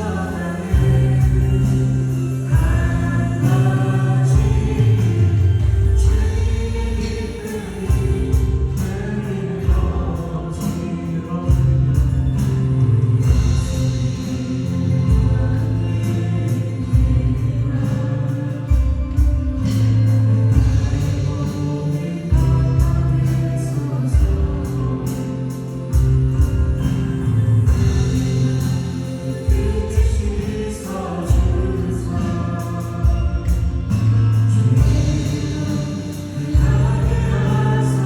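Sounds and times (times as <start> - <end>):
group vocals: 0.0 - 38.0
keyboards: 0.0 - 38.0
steady drum beat: 0.0 - 38.0
sustained bass notes: 0.0 - 38.0.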